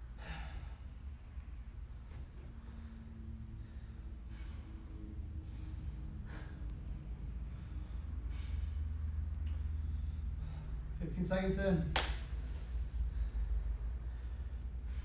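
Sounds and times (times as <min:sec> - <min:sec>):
man breathing hard: 0:00.0 - 0:01.3, 0:02.4 - 0:11.0, 0:12.3 - 0:15.0
low hum: 0:00.0 - 0:15.0.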